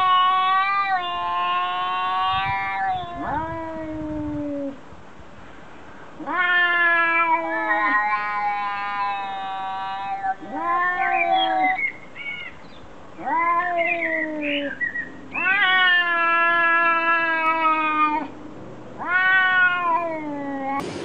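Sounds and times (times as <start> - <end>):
cat yowling: 0.0 - 4.8, 6.2 - 11.8, 13.2 - 18.3, 19.0 - 20.8.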